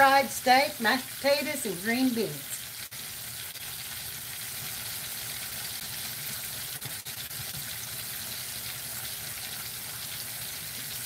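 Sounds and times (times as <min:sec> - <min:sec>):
hot fat sizzling: 0:00.0 - 0:11.0.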